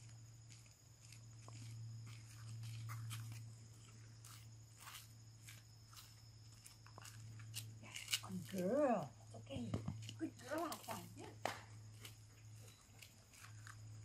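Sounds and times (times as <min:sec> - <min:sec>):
footsteps scuffing on pavement: 0:00.0 - 0:08.3, 0:09.7 - 0:14.0.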